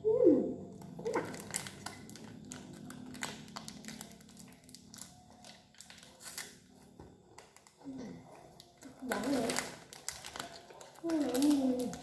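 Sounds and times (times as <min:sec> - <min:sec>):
plastic wrappers crinkling: 0:00.7 - 0:12.0.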